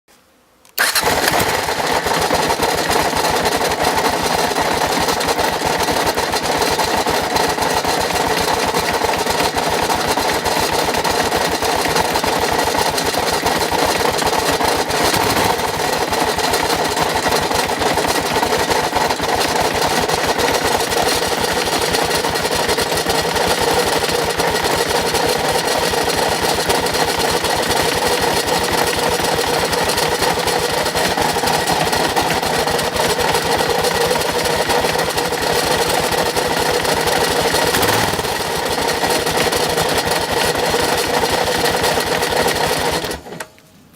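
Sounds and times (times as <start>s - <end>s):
motorcycle engine rattling loudly: 0.8s - 43.3s.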